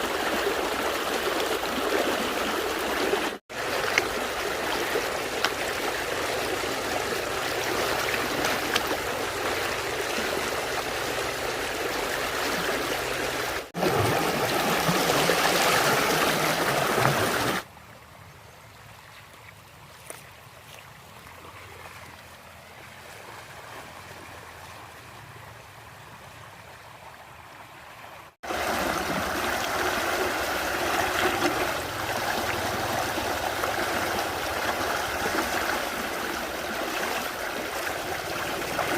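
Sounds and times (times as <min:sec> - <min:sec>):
stream water rushing and trickling: 0:00.0 - 0:38.9.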